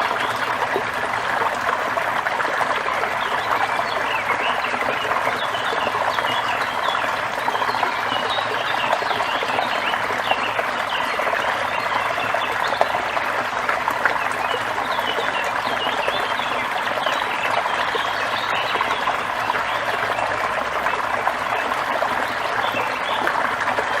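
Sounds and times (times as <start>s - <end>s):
small waterfall splashing: 0.0s - 24.0s.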